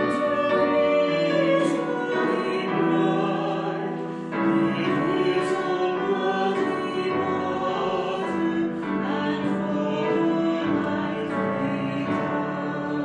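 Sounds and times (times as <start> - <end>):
people singing a hymn: 0.0 - 13.0.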